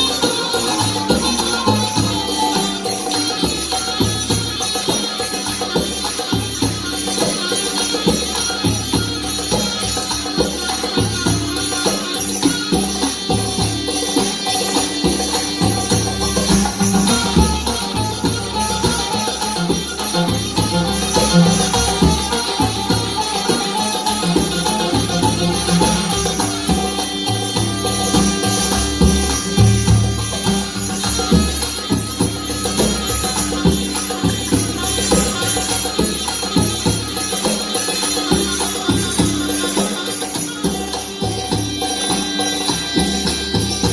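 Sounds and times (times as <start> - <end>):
percussion steady beat: 0.0 - 43.9.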